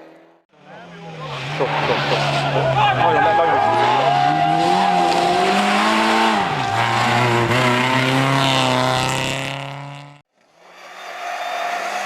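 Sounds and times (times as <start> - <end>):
racing car engine: 0.0 - 10.2.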